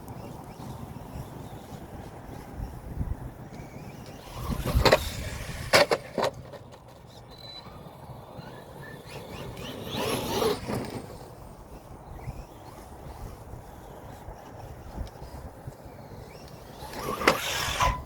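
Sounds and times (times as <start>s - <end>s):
rc truck driving: 0.0s - 18.0s.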